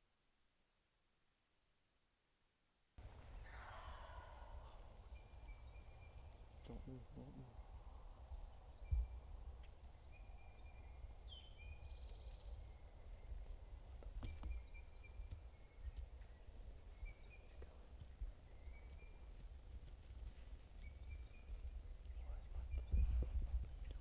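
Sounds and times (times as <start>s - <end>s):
songbird calls: 3.2s - 19.4s, 20.8s - 24.0s.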